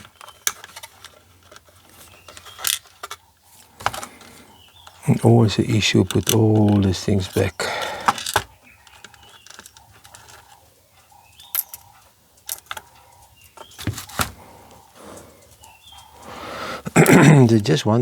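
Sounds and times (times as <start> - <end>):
plastic parts clicking and tapping: 0.0 - 14.4.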